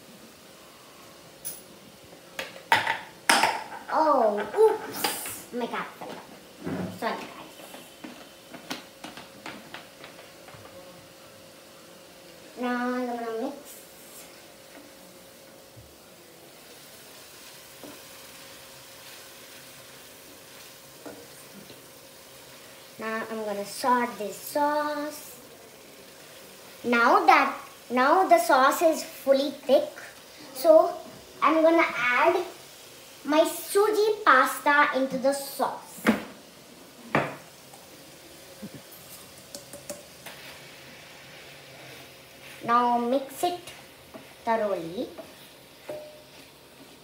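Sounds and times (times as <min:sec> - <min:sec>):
sauce sizzling in a frying pan: 0:00.0 - 0:47.0.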